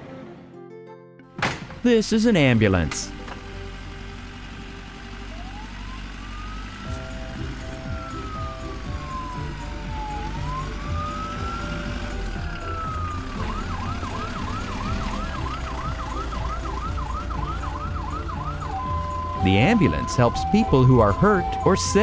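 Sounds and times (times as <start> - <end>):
ambulance siren wailing: 1.9 - 3.7, 4.5 - 22.0.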